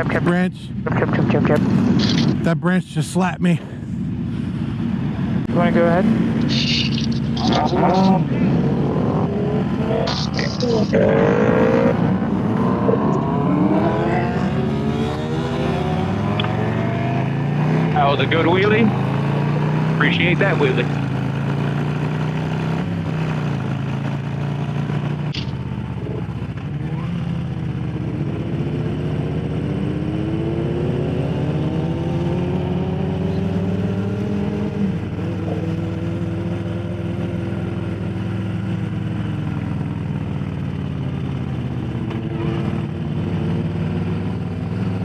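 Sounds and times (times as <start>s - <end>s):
motorcycle engine running: 3.8s - 45.0s.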